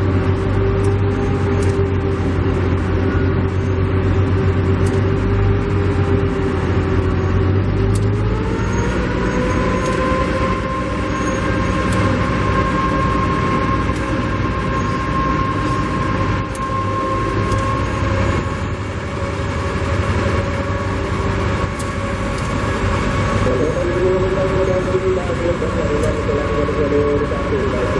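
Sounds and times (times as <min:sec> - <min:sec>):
machine whine: 0:00.0 - 0:27.9
train running close by: 0:00.0 - 0:27.9.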